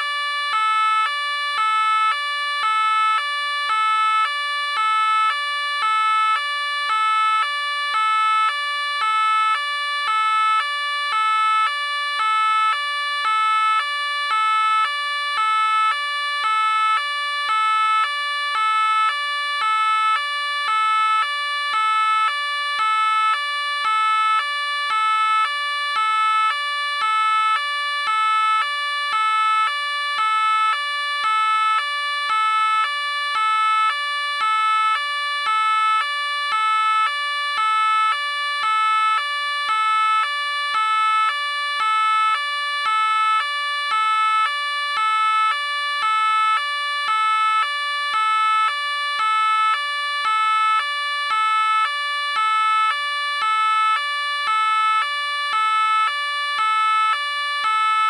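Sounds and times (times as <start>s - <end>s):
police car two-tone siren: 0.0s - 58.0s.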